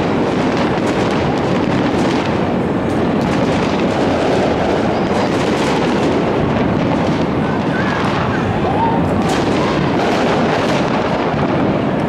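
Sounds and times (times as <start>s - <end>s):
fireworks bangs pops and crackles: 0.0s - 12.0s.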